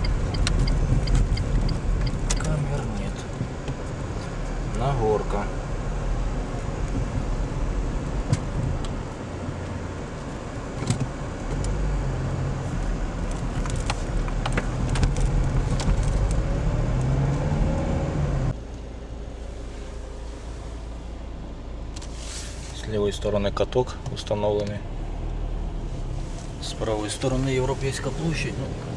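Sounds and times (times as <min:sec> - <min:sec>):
car engine hum: 0:00.0 - 0:28.9
tyre and road noise: 0:00.0 - 0:28.9.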